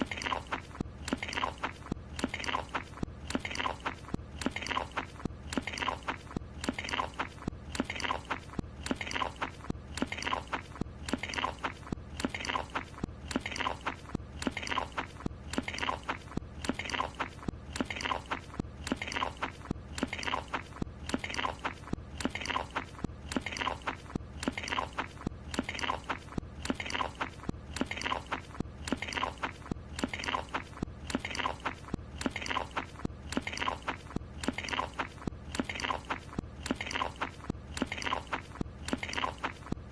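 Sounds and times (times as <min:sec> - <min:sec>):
cartoon crunchy chewing: 0:00.0 - 0:39.9.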